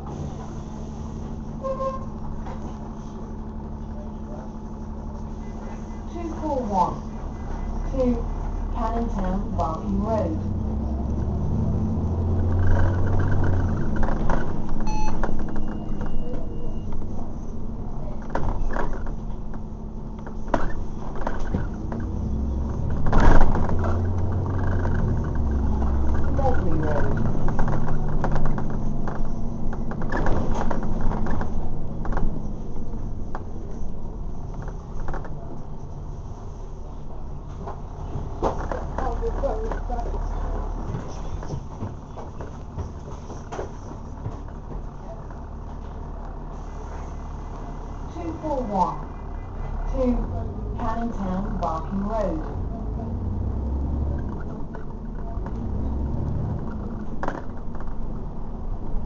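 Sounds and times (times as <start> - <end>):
bus body rattling: 0.0 - 59.0
bus engine running low: 0.0 - 59.0.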